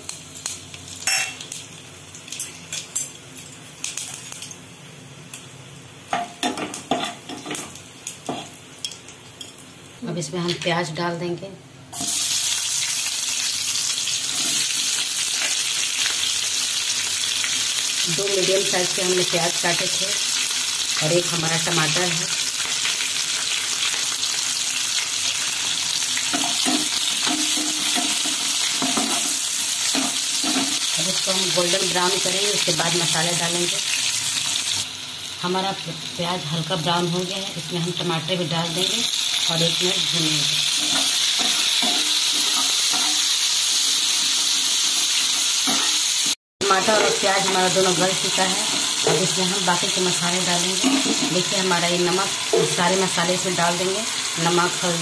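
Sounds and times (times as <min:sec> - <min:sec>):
spices crackling and sizzling in oil: 0:00.0 - 0:11.0, 0:11.9 - 0:55.0.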